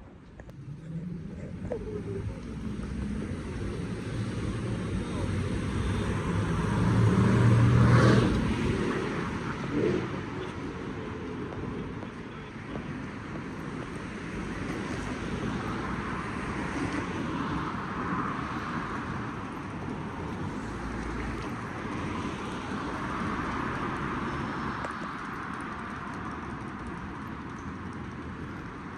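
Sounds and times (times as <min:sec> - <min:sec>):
road traffic: 0:00.0 - 0:28.9.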